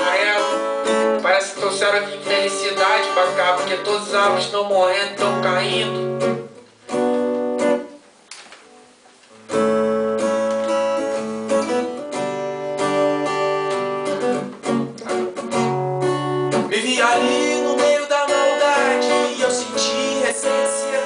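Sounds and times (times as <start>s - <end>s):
acoustic guitar strumming: 0.0s - 8.0s, 8.6s - 21.0s.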